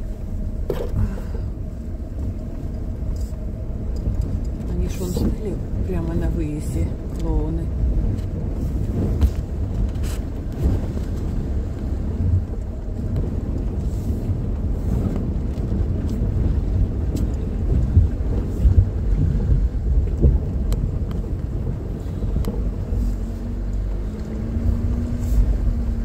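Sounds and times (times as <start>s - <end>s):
engine rumble: 0.0s - 26.0s
water churning against vehicle: 0.0s - 26.0s.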